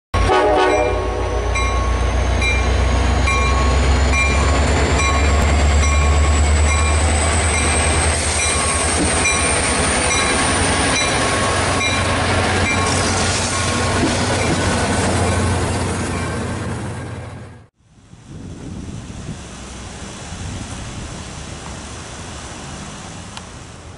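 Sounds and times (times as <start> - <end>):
train rumbling: 0.2 - 23.9.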